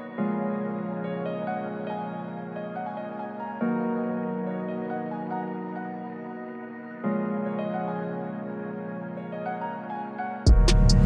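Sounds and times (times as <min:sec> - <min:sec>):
soft new-age keyboard music: 0:00.0 - 0:11.0.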